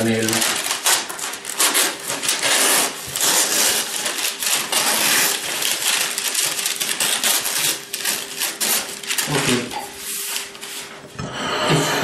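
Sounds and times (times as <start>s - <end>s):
baking paper crinkling: 0.0s - 11.1s.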